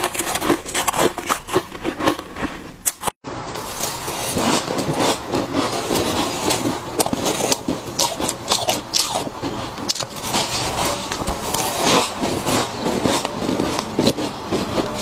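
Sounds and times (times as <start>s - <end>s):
person chewing crunchy frost: 0.0s - 3.1s, 3.7s - 15.0s.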